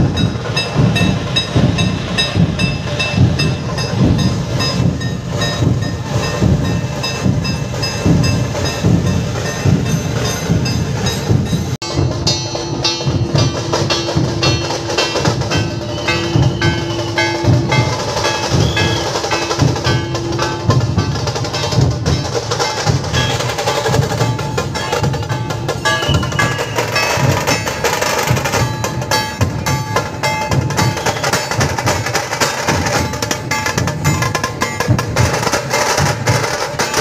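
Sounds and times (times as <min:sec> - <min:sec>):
barrel drums beaten fast: 0:00.0 - 0:37.0
sharp higher drum strikes: 0:00.0 - 0:37.0.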